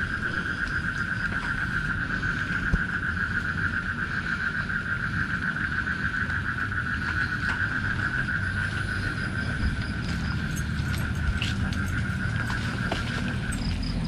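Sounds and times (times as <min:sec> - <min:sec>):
low rumble: 0:00.0 - 0:14.0
night animal chorus trilling: 0:00.0 - 0:14.0.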